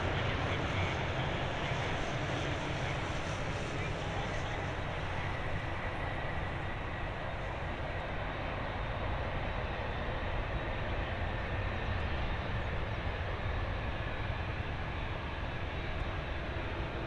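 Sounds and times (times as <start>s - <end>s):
jet engines rushing hum: 0.0s - 17.0s.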